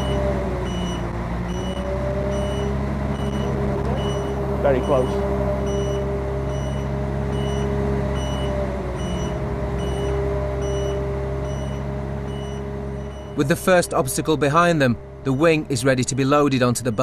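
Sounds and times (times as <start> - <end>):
warning beeper: 0.0 - 13.5, 15.3 - 17.0
heavy vehicle engine humming: 0.0 - 17.0.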